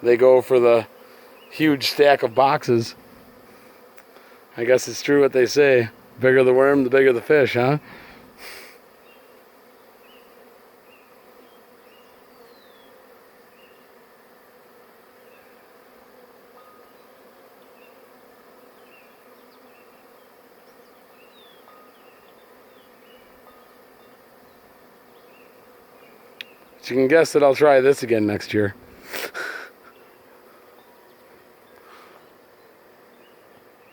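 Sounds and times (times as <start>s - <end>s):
bee swarm buzzing: 0.0s - 33.9s.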